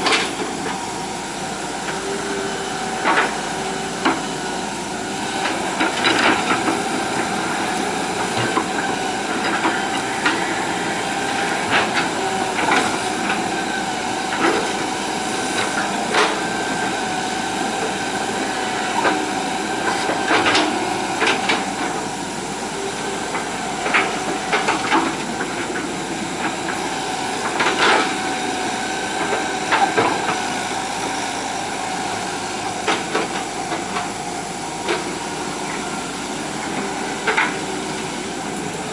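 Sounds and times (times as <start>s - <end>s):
excavator diesel engine whining: 0.0s - 38.9s.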